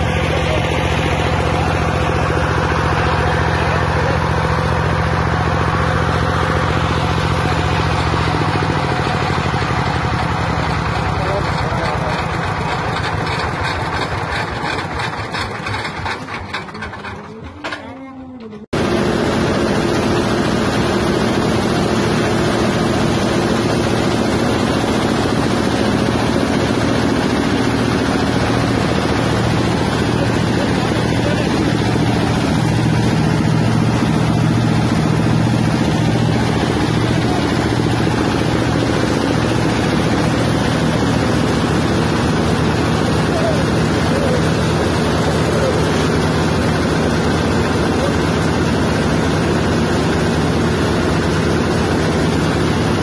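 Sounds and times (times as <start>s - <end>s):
grinding mill mechanical drone: 0.0s - 53.0s.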